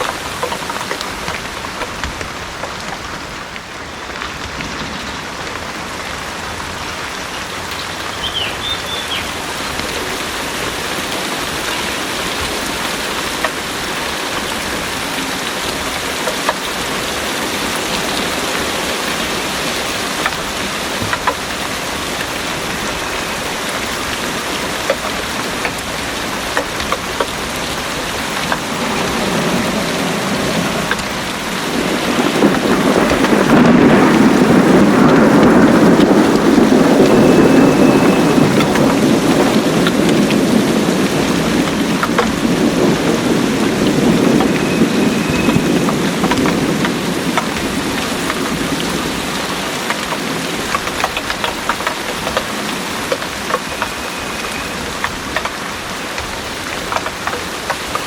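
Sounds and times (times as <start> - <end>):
heavy rain pouring: 0.0 - 58.0
raindrops pattering close by: 0.0 - 58.0.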